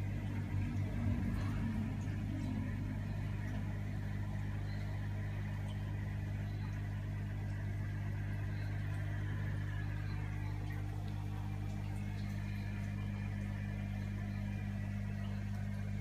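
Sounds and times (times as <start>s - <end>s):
aquarium equipment humming: 0.0s - 16.0s.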